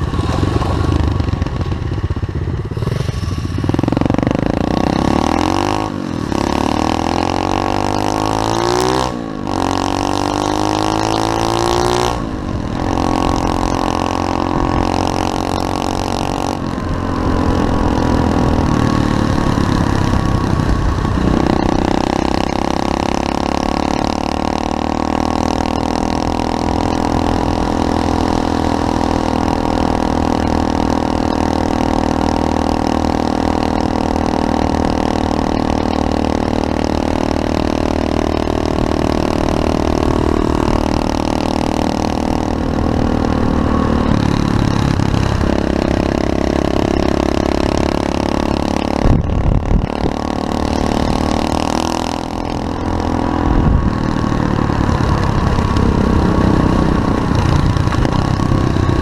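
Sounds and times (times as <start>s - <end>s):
motorbike engine accelerating: 0.0s - 59.0s.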